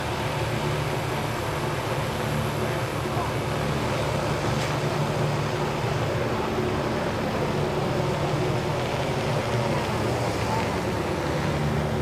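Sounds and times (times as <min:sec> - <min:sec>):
helicopter engine and rotor hum: 0:00.0 - 0:12.0.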